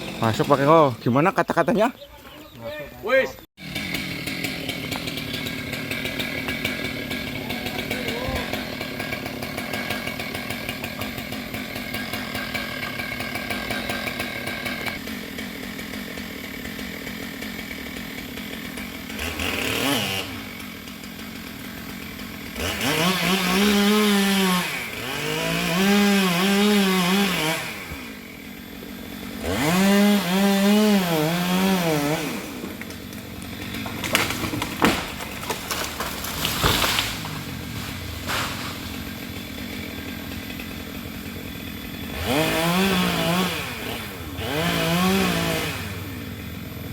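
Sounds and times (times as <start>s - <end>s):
chainsaw cutting wood: 0.0s - 1.2s, 3.6s - 46.9s.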